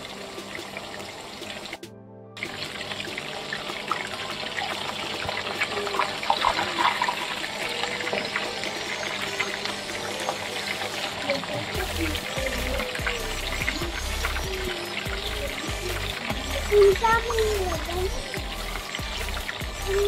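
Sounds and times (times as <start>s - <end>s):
cheese sizzling in hot oil: 2.4s - 20.0s.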